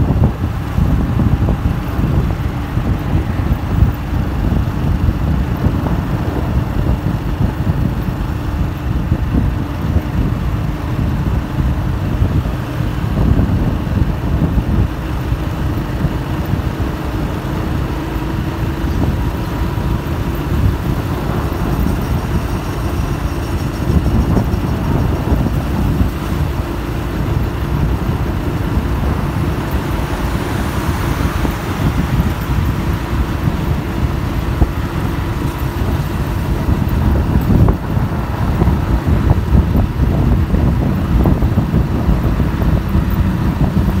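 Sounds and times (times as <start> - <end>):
road and engine rumble: 0.0 - 44.0.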